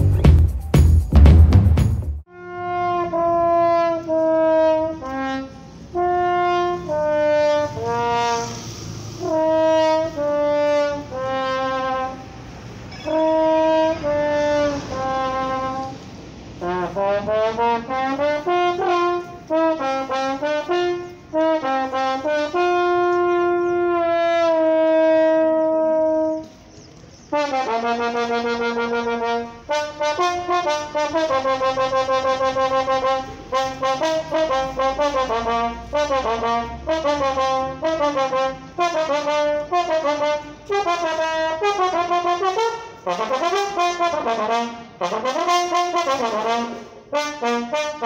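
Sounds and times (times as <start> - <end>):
solo trombone melody: 2.2 - 16.0, 16.6 - 26.7, 27.3 - 48.0.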